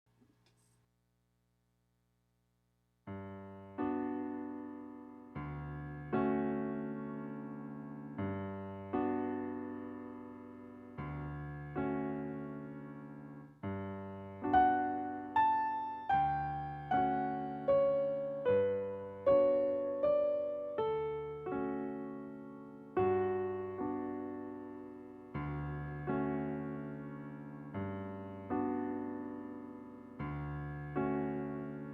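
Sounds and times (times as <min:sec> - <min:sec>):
slow piano chords and melody: 0:03.1 - 0:31.9.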